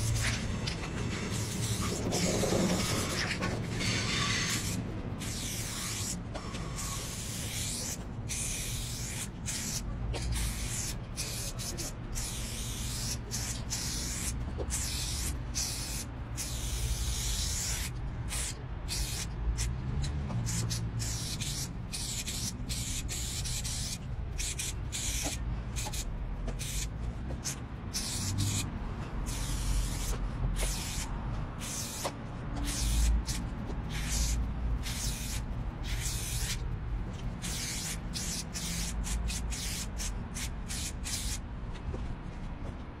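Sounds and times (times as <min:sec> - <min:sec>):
spray paint can hissing: 0:00.0 - 0:36.7, 0:37.3 - 0:41.4.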